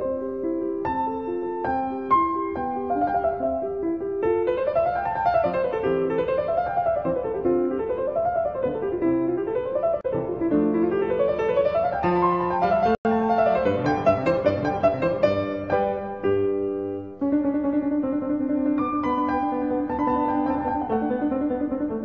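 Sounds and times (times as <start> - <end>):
piano arpeggios: 0.0 - 22.0.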